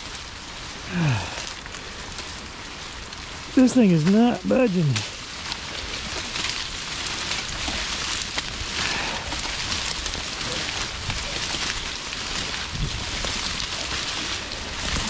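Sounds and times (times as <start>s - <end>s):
freezing rain pattering: 0.0s - 15.0s.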